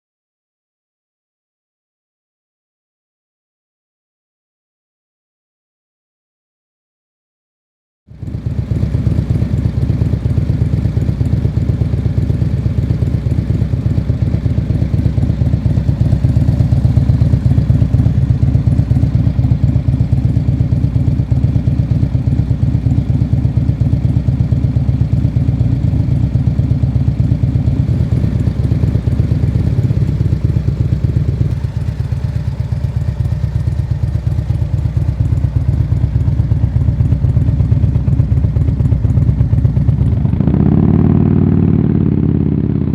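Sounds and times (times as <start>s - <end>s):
motorcycle engine idling: 8.1s - 42.9s.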